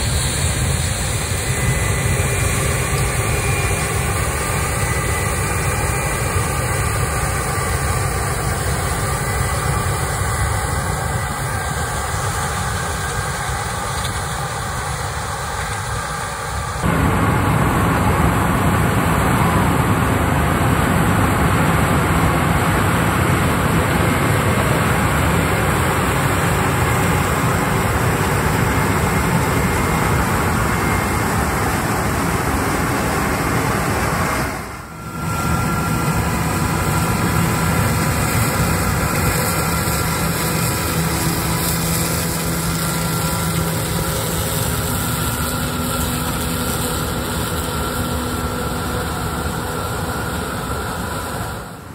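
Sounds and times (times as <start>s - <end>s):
harvesting machinery engine drone: 0.0s - 51.9s.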